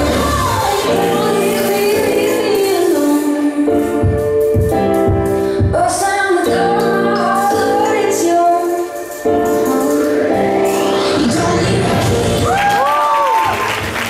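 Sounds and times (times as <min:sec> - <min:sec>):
sung melody over backing music: 0:00.0 - 0:12.4.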